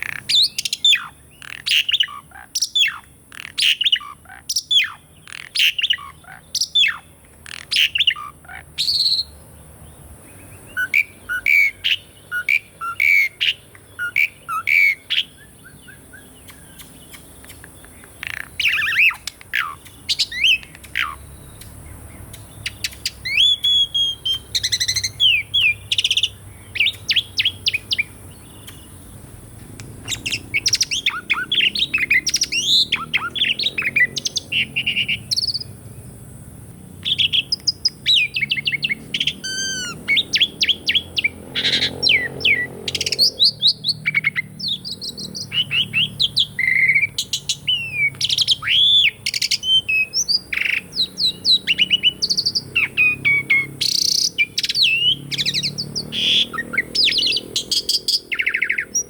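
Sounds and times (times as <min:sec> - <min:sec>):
starling singing: 0:00.0 - 0:35.8, 0:37.0 - 0:59.0.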